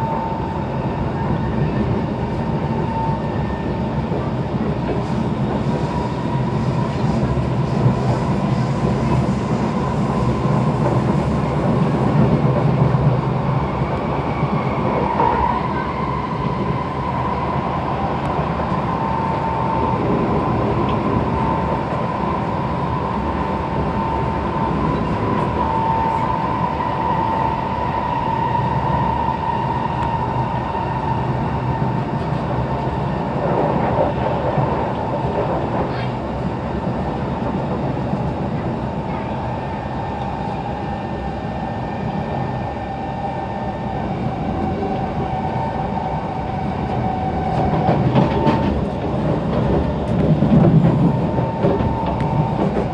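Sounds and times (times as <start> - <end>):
train wheel-on-rail rumble: 0.0 - 52.9.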